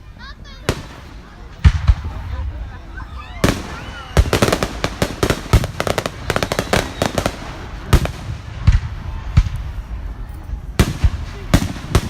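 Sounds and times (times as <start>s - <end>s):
fireworks crackling pops: 0.4s - 12.0s
fireworks heavy bangs: 0.4s - 12.0s.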